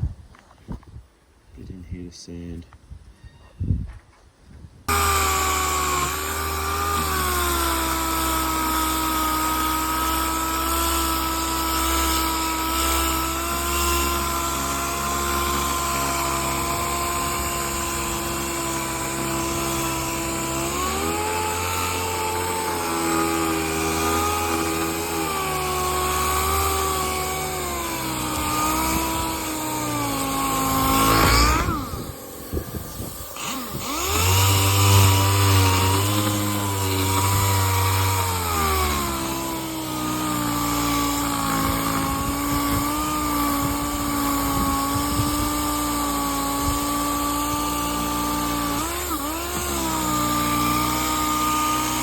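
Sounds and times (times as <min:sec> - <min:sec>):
electric sander whining: 0:04.9 - 0:52.0.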